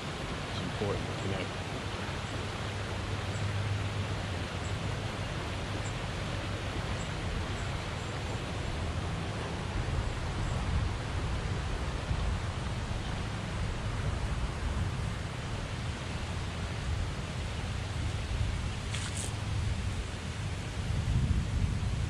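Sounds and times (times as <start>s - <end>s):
flowing water rushing: 0.0s - 20.9s.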